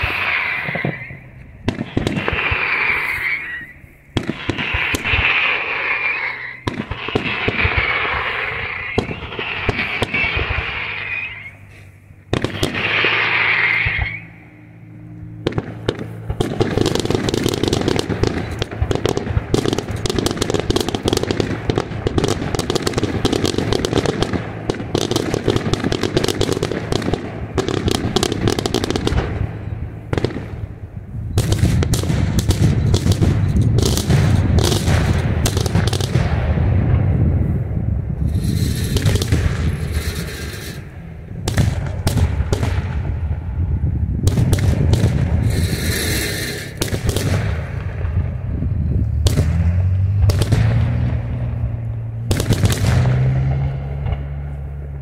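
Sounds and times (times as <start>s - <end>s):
hissing firework bursts: 0.0s - 36.6s, 37.5s - 51.6s, 52.3s - 53.6s
firework bangs and crackles: 0.0s - 55.0s.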